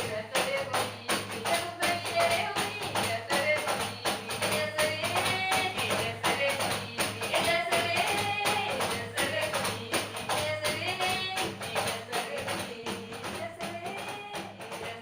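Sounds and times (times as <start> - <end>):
hand percussion beat: 0.0 - 15.0.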